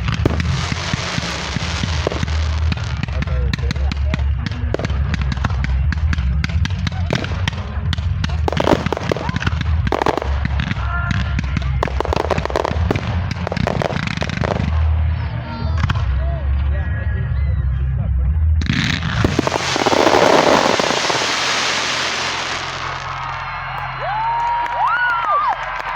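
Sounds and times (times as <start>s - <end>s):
fireworks crackling and bursting: 0.0s - 16.1s, 18.6s - 25.0s.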